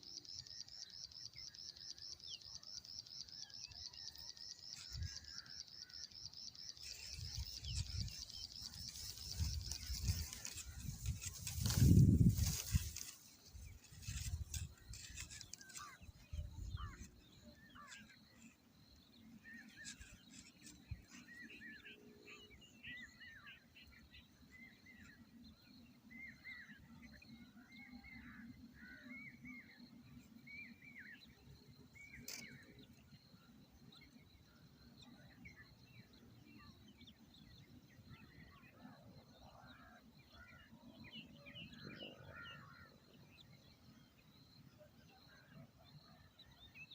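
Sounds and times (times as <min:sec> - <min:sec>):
faint bird chirps: 0:00.0 - 0:46.9.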